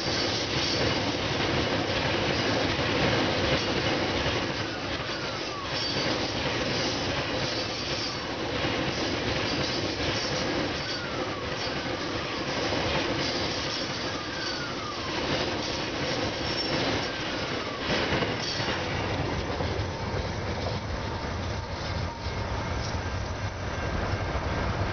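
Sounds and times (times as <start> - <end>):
low train rumble: 0.0 - 24.9
train wheel squeals: 0.0 - 24.9
train wheels clattering on rails: 0.0 - 24.9.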